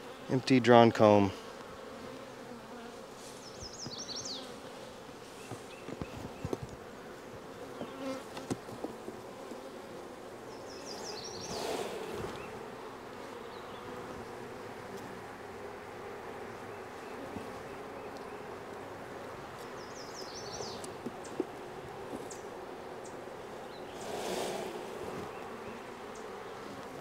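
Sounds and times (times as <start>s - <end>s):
honey bees buzzing: 0.0s - 27.0s.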